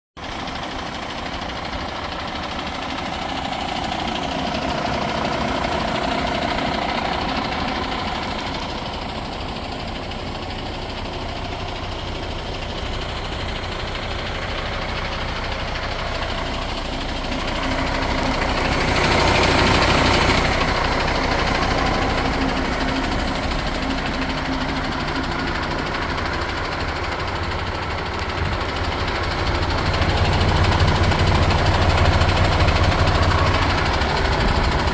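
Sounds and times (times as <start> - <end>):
diesel truck engine idling: 0.2 - 34.9.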